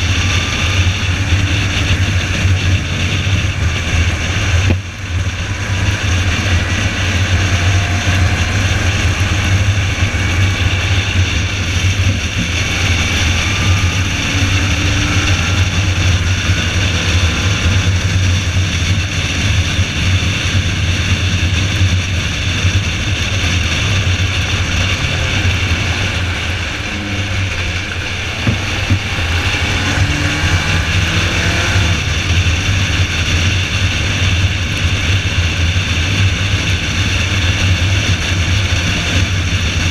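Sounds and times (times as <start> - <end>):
racing car engine droning: 0.0 - 39.9.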